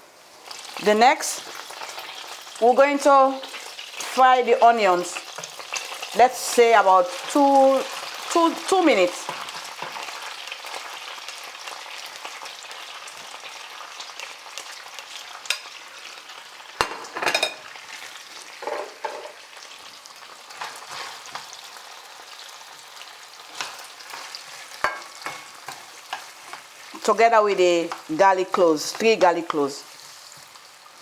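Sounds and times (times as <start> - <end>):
onions sizzling in a pan: 0.0 - 31.0.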